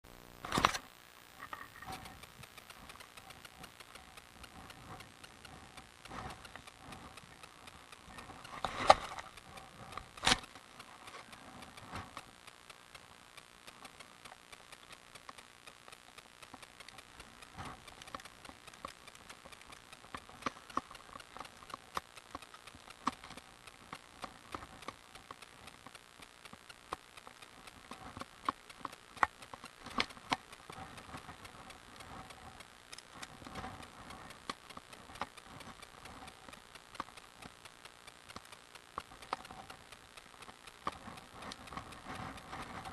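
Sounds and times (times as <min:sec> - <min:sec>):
bicycle clicking and rattling: 0:00.3 - 0:42.9.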